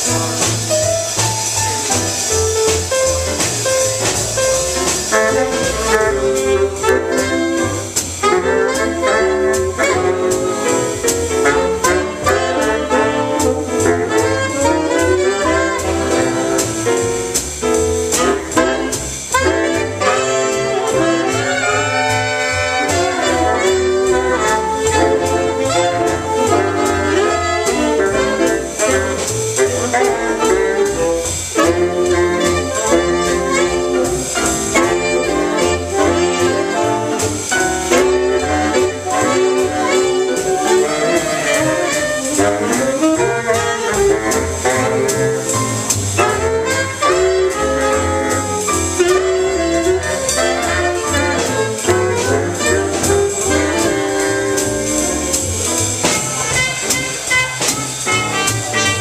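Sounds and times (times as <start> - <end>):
jazz big band playing: 0.0 - 59.0
saxophone section: 5.0 - 16.7, 18.1 - 59.0.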